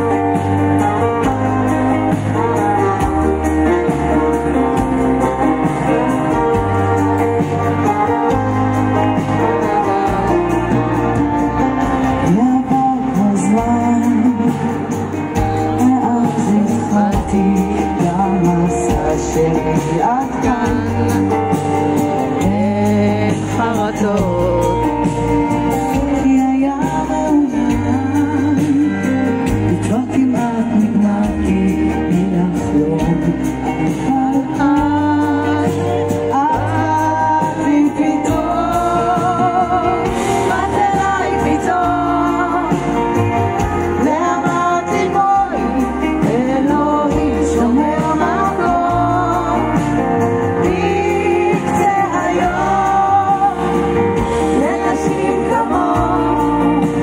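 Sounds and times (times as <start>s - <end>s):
pop band playing: 0.0s - 57.0s
woman singing with vibrato: 0.0s - 57.0s.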